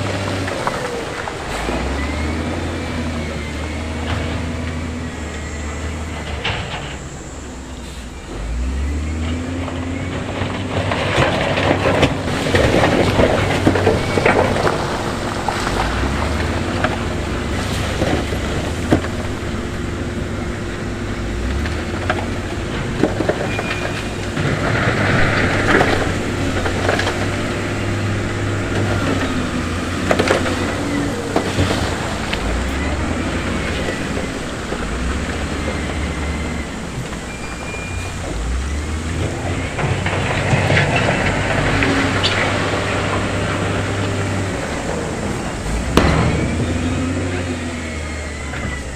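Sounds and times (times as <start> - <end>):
diesel machinery engine revving: 0.0 - 48.9.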